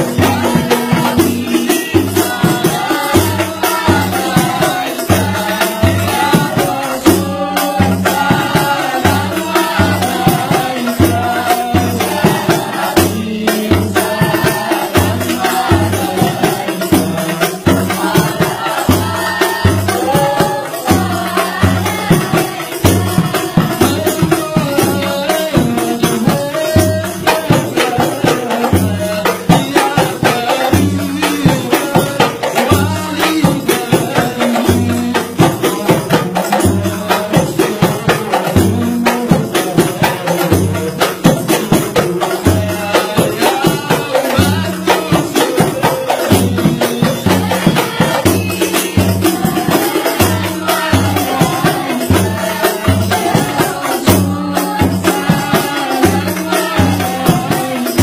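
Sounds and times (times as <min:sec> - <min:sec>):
frame drums beating: 0:00.0 - 0:58.0
man singing into microphone: 0:00.0 - 0:58.0
voices singing along: 0:00.0 - 0:58.0.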